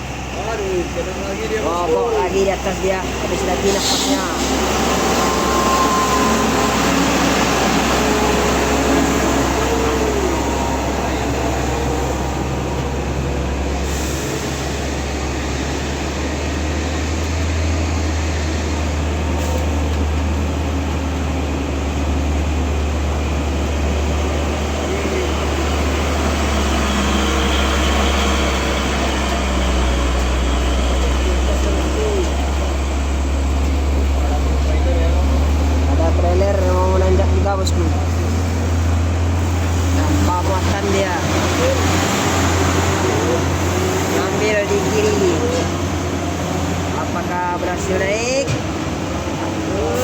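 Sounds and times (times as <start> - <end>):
indistinct voices: 0.0 - 20.6, 22.6 - 50.0
truck engine droning: 0.0 - 50.0.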